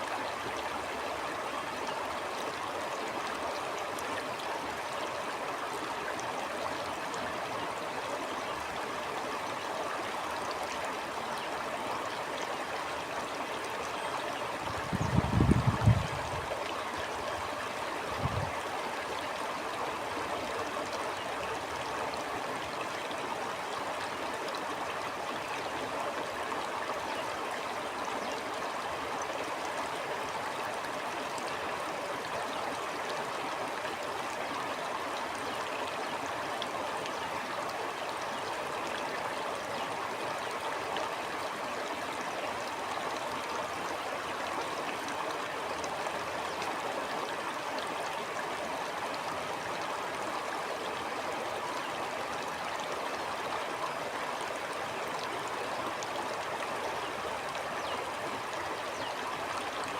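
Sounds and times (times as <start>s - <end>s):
stream water gurgling: 0.0s - 59.9s.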